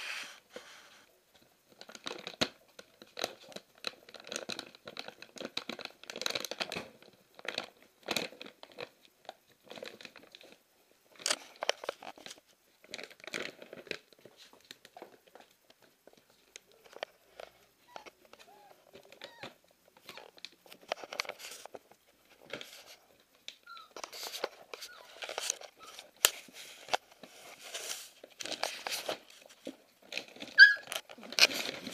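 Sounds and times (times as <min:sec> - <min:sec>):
plastic bag crinkling and ripping: 0:01.7 - 0:31.9.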